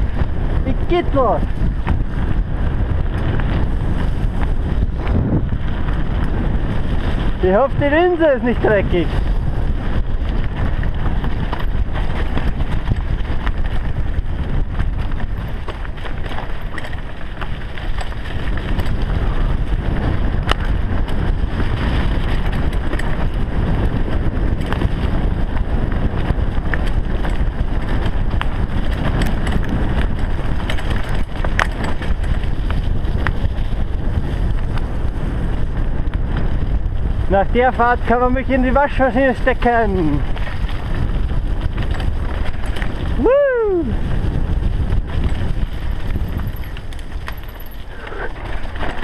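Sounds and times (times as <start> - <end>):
mountain bike rattling on dirt trail: 0.0 - 49.0
wind rushing over microphone: 0.0 - 49.0.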